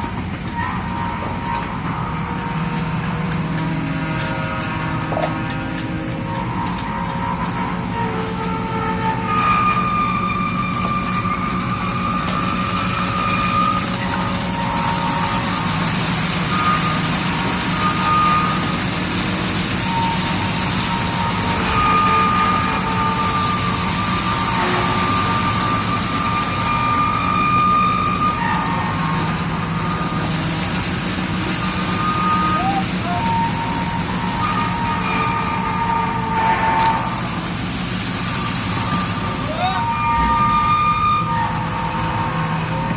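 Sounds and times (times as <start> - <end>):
heavy engine running: 0.0 - 42.9
high whine: 0.0 - 42.9.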